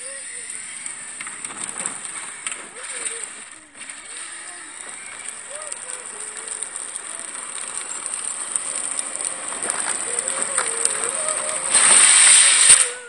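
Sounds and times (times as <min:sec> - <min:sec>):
electric motors whining: 0:00.0 - 0:13.0
plastic wheels rumbling: 0:00.0 - 0:13.0.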